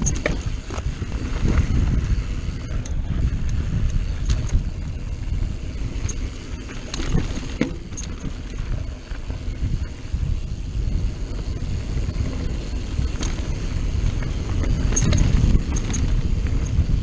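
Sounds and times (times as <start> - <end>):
bike clicks and rattles: 0.0 - 17.0
bike tyres on dirt: 0.0 - 17.0
wind rumble on microphone: 0.0 - 17.0.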